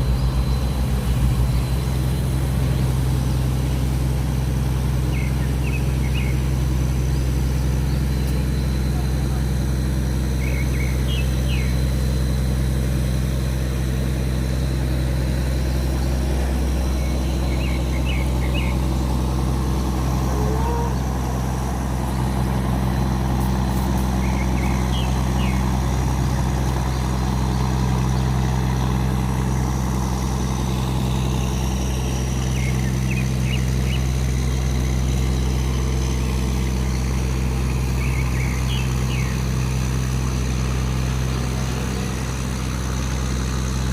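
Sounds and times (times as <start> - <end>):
diesel engine drone: 0.0 - 43.9.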